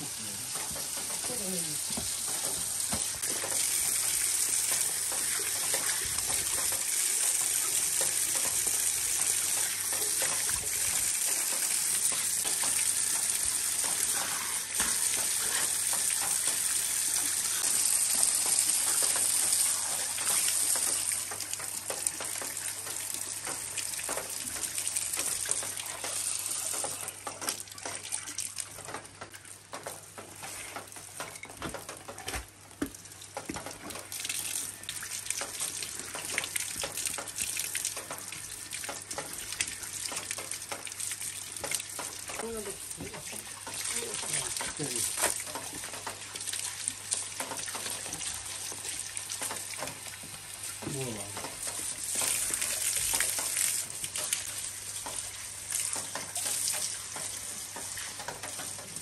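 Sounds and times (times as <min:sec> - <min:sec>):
splashing from washing: 0:00.0 - 0:59.0
water running into concrete basin: 0:00.0 - 0:59.0.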